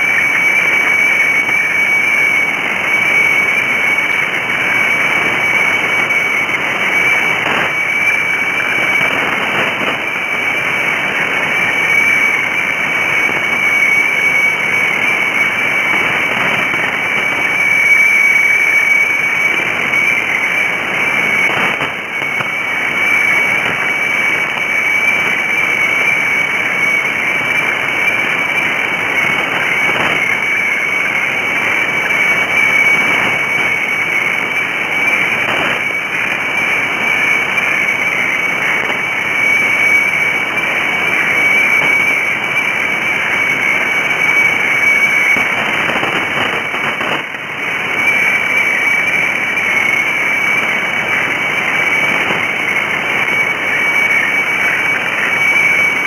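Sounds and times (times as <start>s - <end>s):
static hiss: 0.0s - 56.0s
steady high radio tone: 0.0s - 56.0s.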